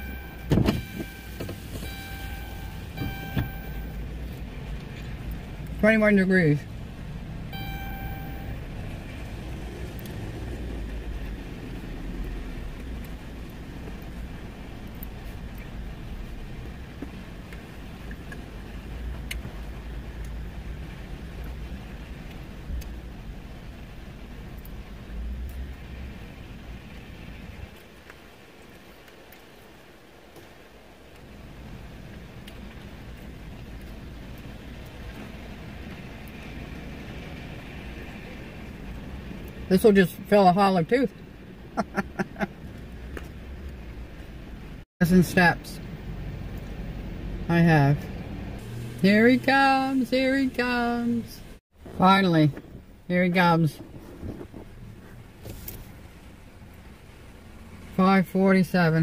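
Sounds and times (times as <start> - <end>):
vehicle low rumble: 0.0 - 59.0.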